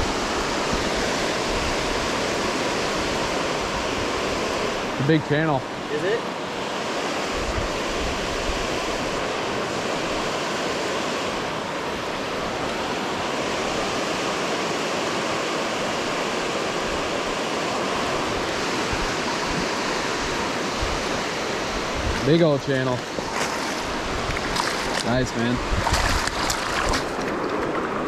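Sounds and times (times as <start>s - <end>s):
water rushing through spillway: 0.0s - 28.0s.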